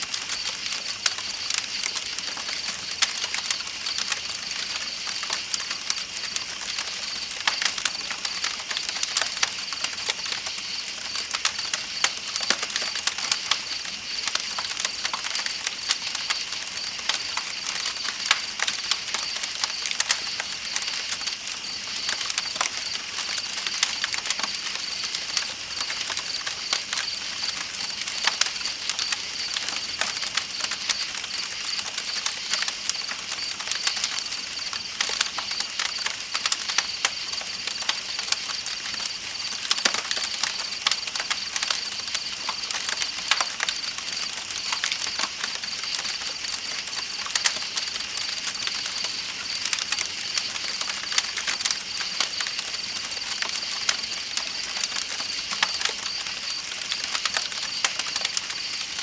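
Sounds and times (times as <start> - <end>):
campfire crackling and popping: 0.0 - 59.0
night insects chirping: 0.0 - 59.0.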